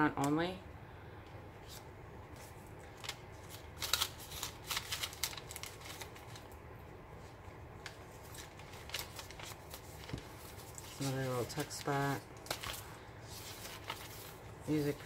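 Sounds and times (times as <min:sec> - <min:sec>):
paper pages rustling: 0:01.6 - 0:06.5, 0:07.8 - 0:15.0.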